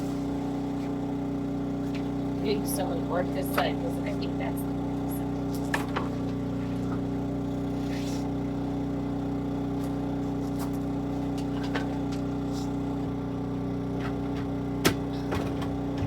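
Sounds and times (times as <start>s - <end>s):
generator engine humming: 0.0s - 16.0s.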